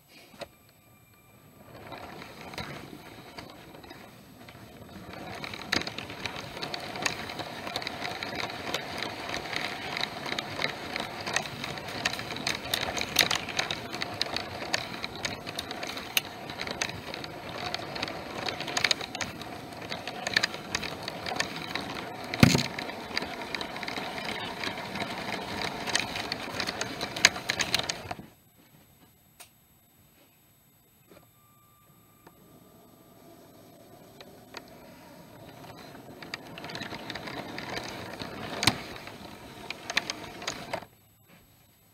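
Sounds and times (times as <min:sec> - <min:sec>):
toy train motor humming: 0:01.4 - 0:28.2, 0:33.6 - 0:40.9
clicking wheels on plastic track: 0:01.4 - 0:28.3, 0:33.6 - 0:40.9.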